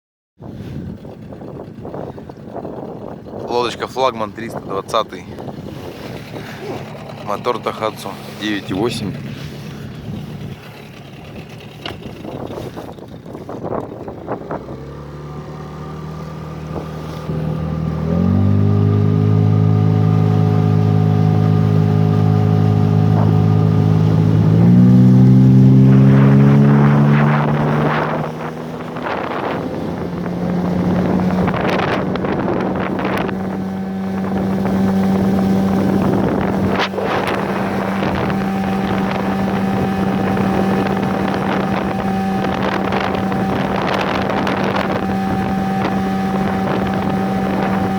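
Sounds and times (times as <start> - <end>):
outboard motor running: 0.4 - 47.9
wind on microphone: 0.4 - 47.9.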